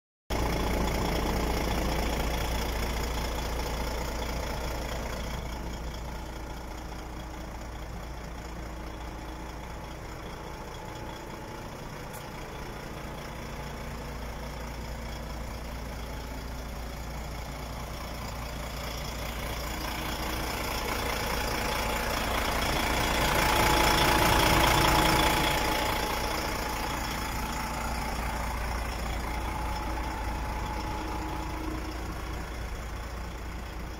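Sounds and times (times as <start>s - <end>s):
truck diesel engine idling: 0.3s - 33.9s.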